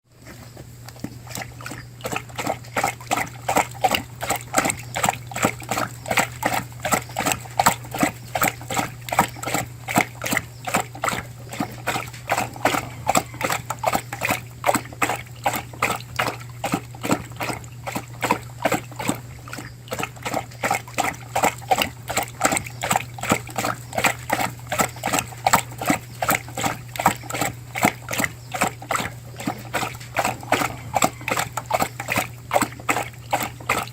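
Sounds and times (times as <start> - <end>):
dog lapping water: 0.0 - 33.9.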